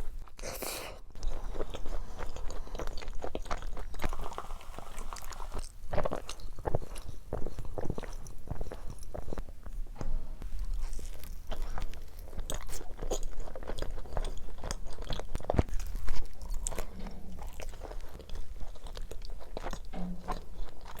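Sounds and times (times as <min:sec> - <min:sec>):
biting and crunching food: 0:00.0 - 0:09.6, 0:10.6 - 0:21.0.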